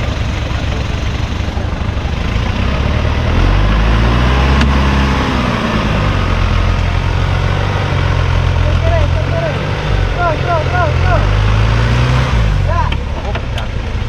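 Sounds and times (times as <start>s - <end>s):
off-road vehicle engine at low revs: 0.0s - 14.0s.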